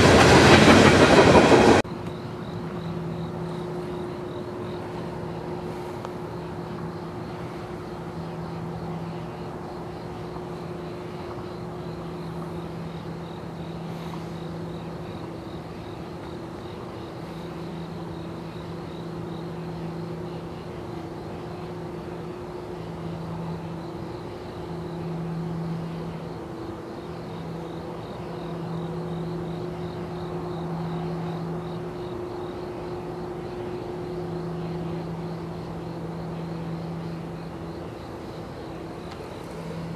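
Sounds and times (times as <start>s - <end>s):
low mechanical drone: 0.0s - 39.9s
pulsing insect trill: 0.0s - 39.9s.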